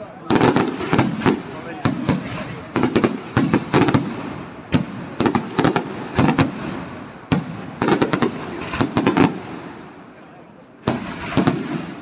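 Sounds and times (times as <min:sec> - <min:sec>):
fireworks bursting: 0:00.0 - 0:10.2, 0:10.8 - 0:12.0.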